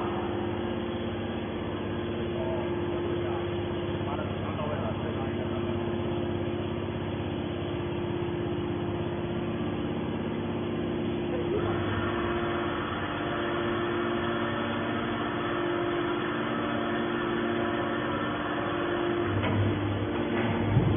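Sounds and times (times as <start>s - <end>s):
baler motor humming: 0.0s - 20.9s.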